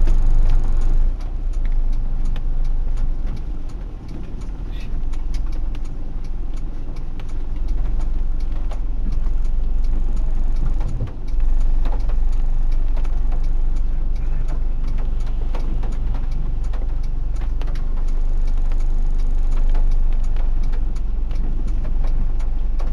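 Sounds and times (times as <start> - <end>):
car engine and road noise: 0.0 - 22.9
raindrops ticking on windshield: 0.0 - 22.9.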